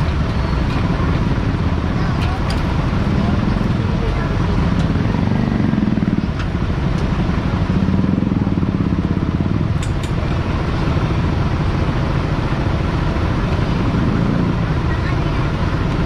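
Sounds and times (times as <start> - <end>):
street noise: 0.0 - 16.0
vehicle engine running: 0.0 - 16.0.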